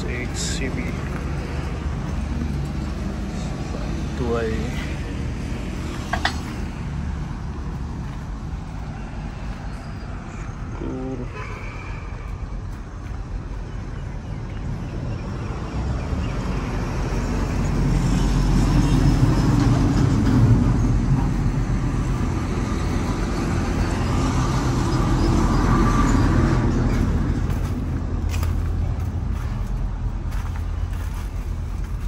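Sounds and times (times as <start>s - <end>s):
vehicle traffic passing: 0.0s - 32.0s.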